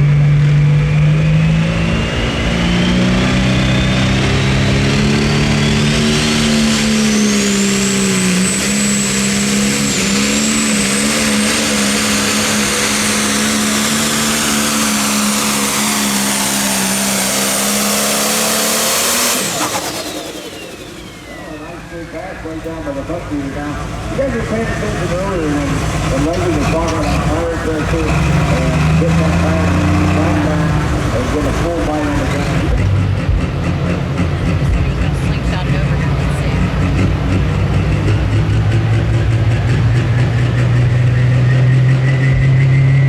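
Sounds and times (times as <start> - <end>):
diesel engine running hard: 0.0 - 43.0
turbo whine: 0.0 - 43.0.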